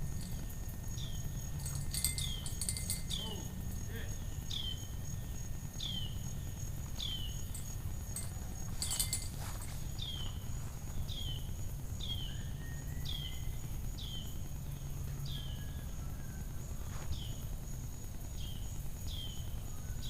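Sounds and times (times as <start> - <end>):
high-pitched insect drone: 0.0 - 20.0
low outdoor rumble: 0.0 - 20.0.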